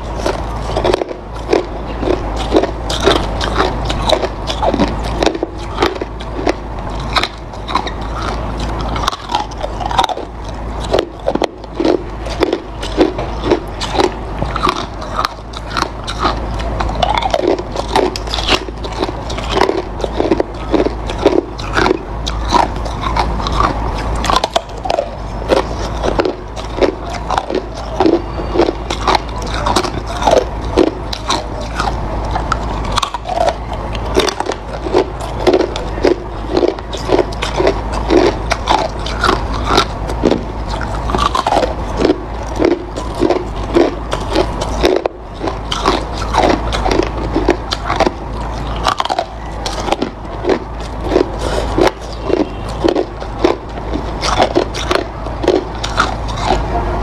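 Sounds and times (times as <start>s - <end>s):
ice being chewed: 0.0s - 56.8s.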